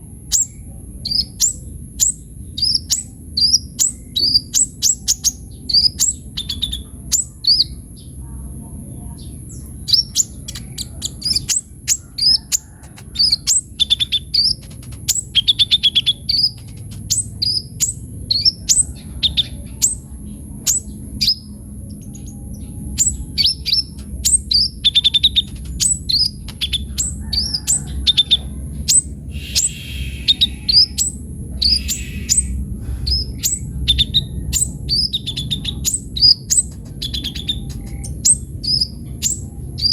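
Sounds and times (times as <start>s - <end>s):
sunbird singing high chirps and trills: 0.0s - 39.9s.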